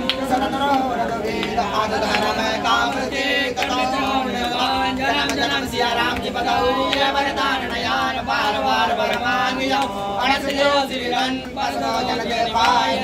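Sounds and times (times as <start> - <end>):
voices singing a chant: 0.0 - 13.0.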